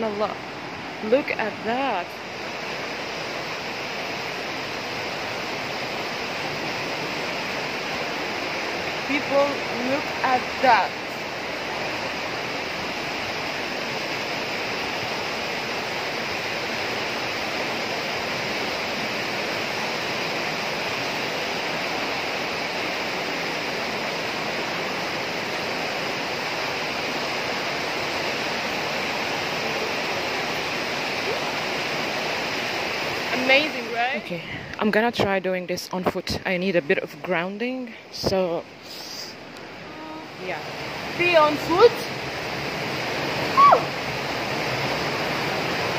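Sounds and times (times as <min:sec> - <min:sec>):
stream rushing over boulders: 0:00.0 - 0:45.9.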